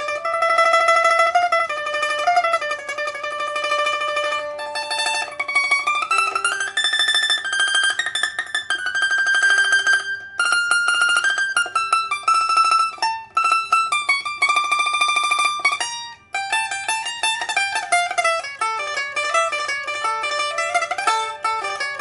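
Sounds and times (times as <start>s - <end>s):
liuqin single plucked notes: 0.0s - 22.0s
liuqin tremolo plucking: 0.0s - 22.0s.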